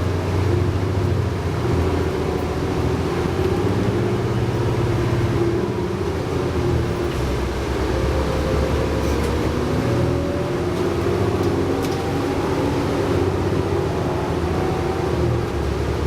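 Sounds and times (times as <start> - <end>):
bus engine low rumble: 0.0 - 16.0
rising whine: 1.8 - 16.0.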